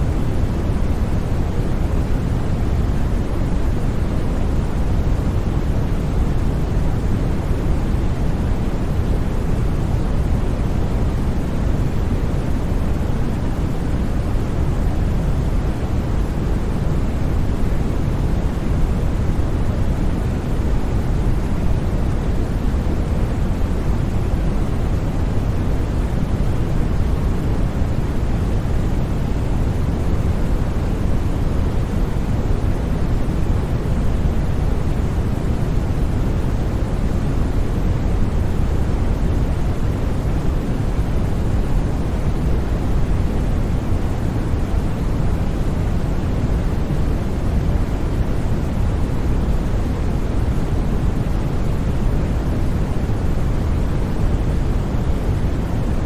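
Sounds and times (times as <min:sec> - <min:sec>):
deep white noise hiss: 0:00.0 - 0:56.0.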